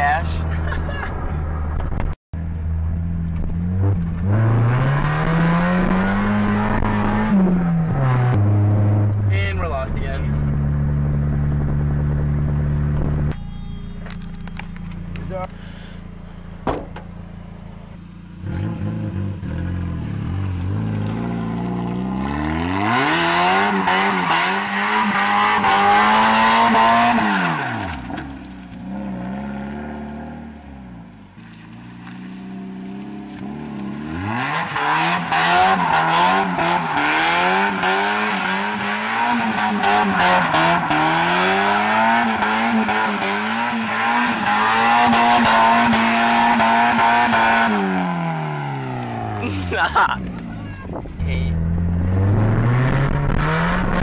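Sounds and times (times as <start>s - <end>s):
car engine revving: 1.4s - 54.0s.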